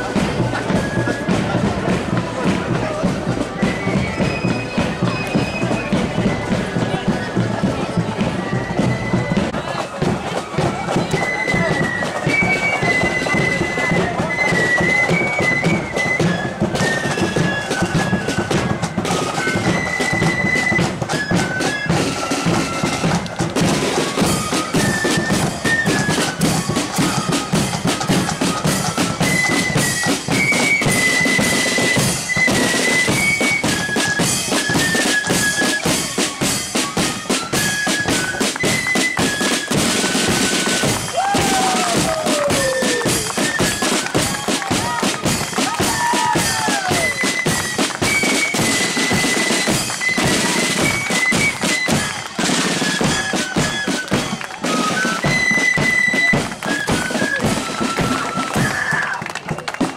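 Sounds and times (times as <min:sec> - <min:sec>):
flute melody: 0:00.0 - 0:59.9
rolling side drums: 0:00.0 - 0:59.9.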